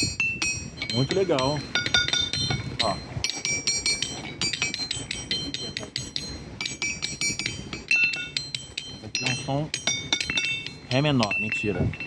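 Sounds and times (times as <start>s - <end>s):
musical stones clinking: 0.0s - 12.0s.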